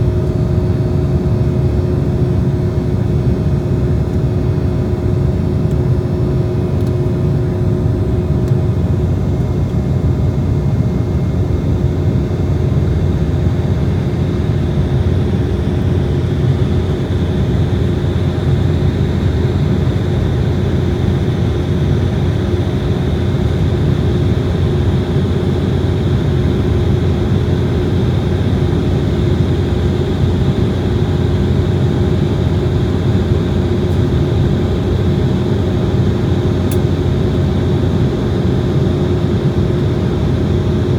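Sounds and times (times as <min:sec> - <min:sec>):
jet cabin engine rumble and whine: 0:00.0 - 0:40.9.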